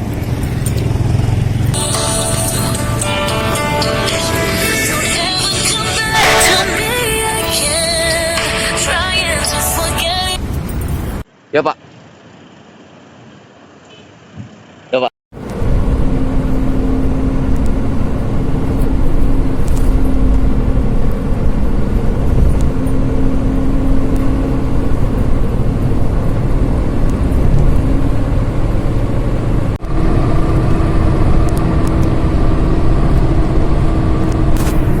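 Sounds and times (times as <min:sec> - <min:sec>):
vehicle engine rumbling: 0:00.0 - 0:11.4, 0:15.4 - 0:35.0.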